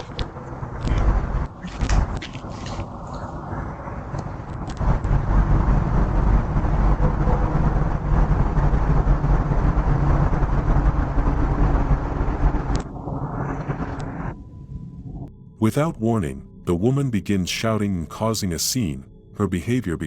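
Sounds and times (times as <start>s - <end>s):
loud steady rumbling: 0.0s - 18.6s.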